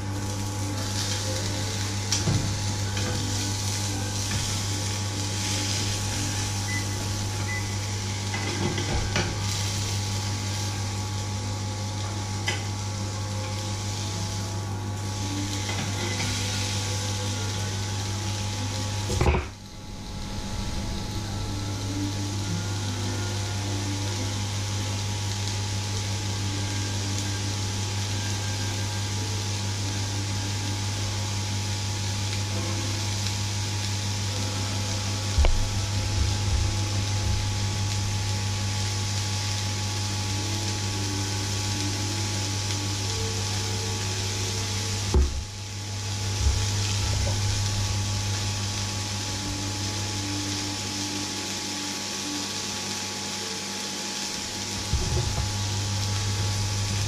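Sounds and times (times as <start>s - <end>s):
meat frying hiss: 0.0s - 57.0s
steady hum: 0.0s - 57.0s.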